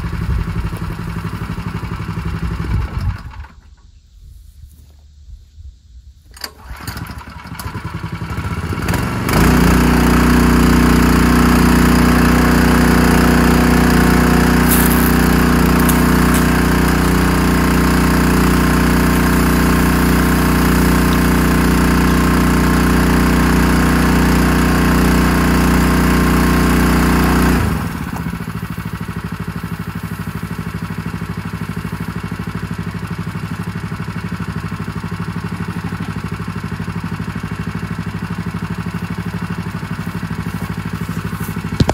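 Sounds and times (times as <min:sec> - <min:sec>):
engine running: 0:00.0 - 0:03.8, 0:06.4 - 0:41.9.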